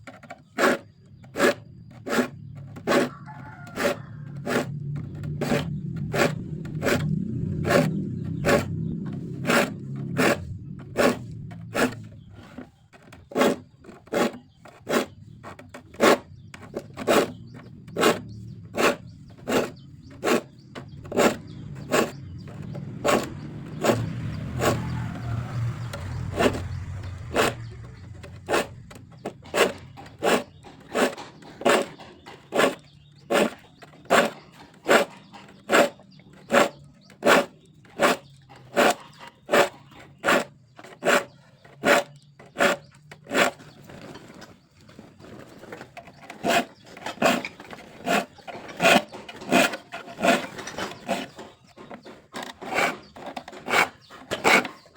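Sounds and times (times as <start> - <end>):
metal file rasping on saw teeth: 0.1 - 54.9.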